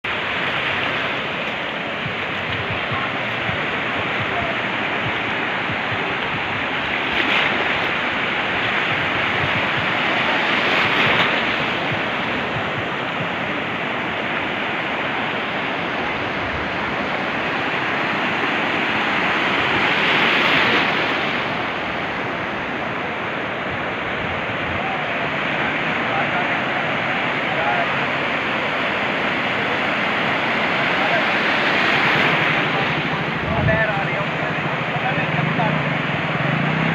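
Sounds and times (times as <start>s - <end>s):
waves breaking on a beach: 0.0s - 36.9s.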